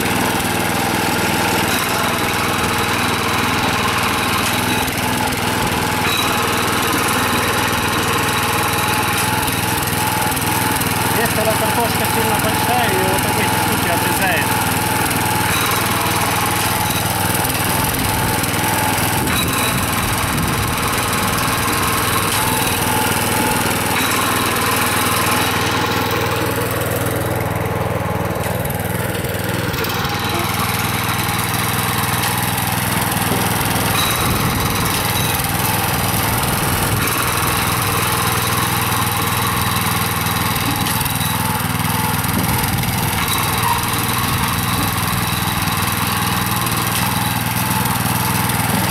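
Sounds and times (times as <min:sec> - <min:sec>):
tractor engine running under load: 0:00.0 - 0:48.9.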